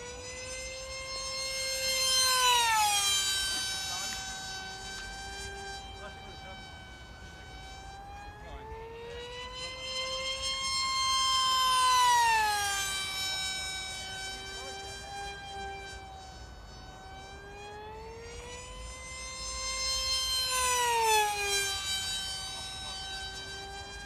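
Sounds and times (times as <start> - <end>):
model plane propeller whining past: 0.0 - 24.0.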